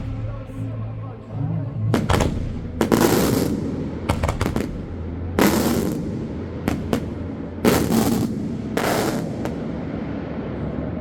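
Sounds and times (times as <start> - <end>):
fireworks exploding: 0.0 - 1.0, 1.9 - 10.4.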